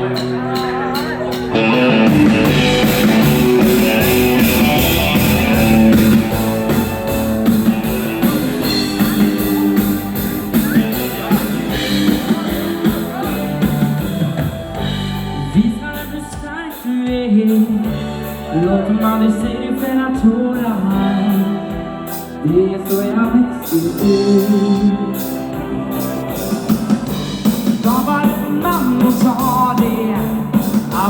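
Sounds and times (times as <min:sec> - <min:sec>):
dance band playing: 0:00.0 - 0:31.0
drum kit beat: 0:00.0 - 0:31.0
guitar: 0:00.0 - 0:31.0
person singing: 0:00.0 - 0:31.0.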